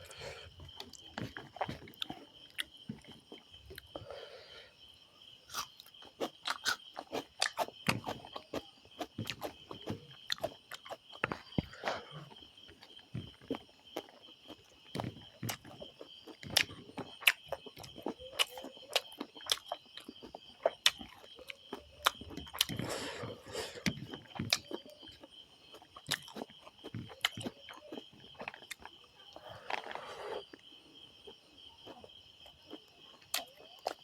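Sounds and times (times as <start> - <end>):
chewing and crunching: 0.0 - 4.3, 5.4 - 34.0.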